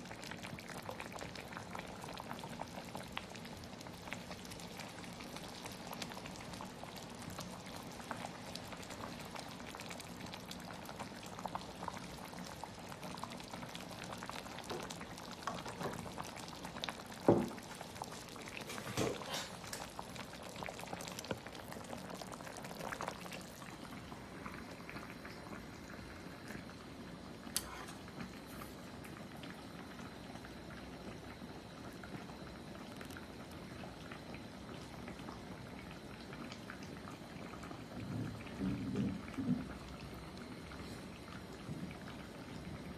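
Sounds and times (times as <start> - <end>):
broth bubbling: 0.0 - 42.9.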